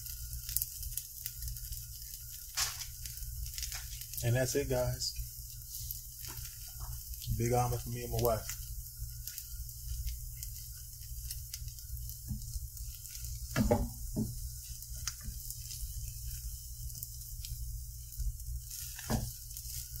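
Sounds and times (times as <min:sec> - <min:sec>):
omelet sizzling in a pan: 0:00.0 - 0:20.0.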